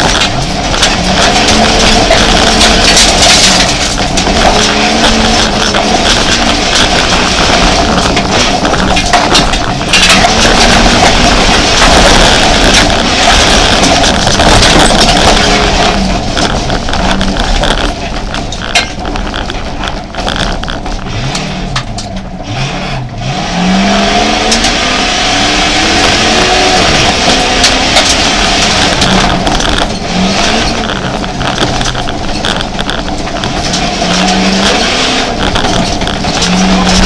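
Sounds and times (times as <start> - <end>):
clicks and rattles: 0.0 - 22.4, 23.8 - 37.0
car engine accelerating: 0.0 - 37.0
road noise: 0.0 - 37.0.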